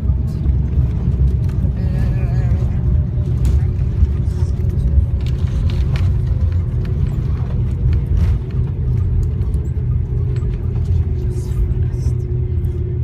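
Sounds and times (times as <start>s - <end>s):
airliner wheels and engines rumbling: 0.0s - 13.0s
steady cabin hum: 0.0s - 13.0s.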